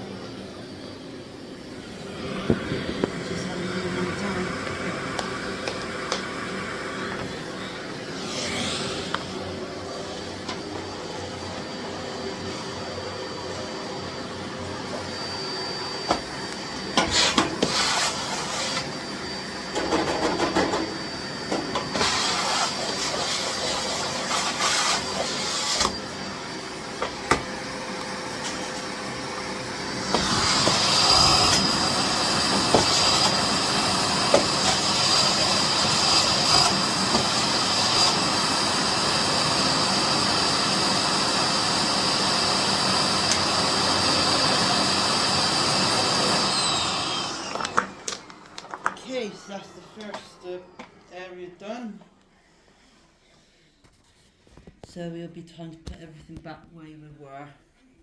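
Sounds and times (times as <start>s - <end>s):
vacuum cleaner running with whine: 0.0s - 52.0s.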